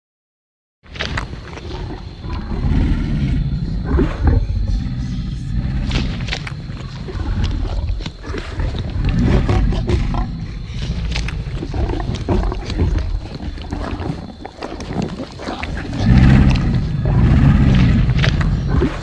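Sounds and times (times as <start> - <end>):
deep rumbling growls and roars: 1.0 - 19.0.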